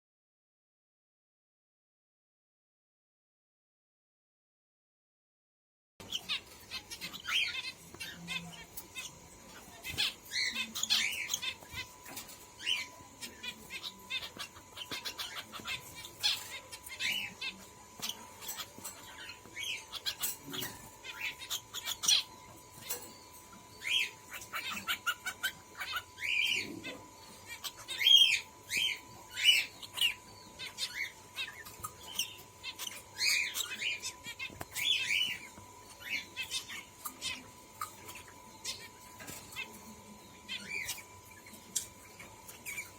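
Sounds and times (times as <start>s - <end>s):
parrotlets chirping: 6.0s - 42.9s.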